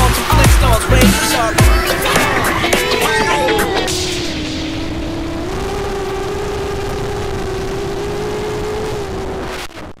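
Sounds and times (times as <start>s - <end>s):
rushing noise: 0.0s - 9.9s
drone motors whining: 0.6s - 9.6s.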